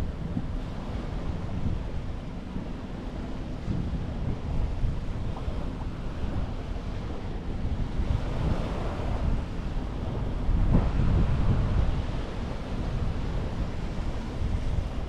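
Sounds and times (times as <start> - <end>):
sea waves washing onto beach: 0.0 - 15.0
wind rumbling on microphone: 0.0 - 15.0.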